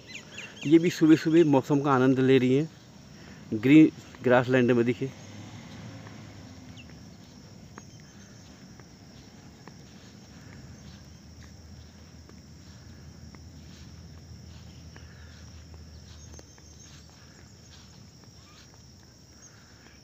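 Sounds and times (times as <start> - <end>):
crickets droning: 0.0 - 20.0.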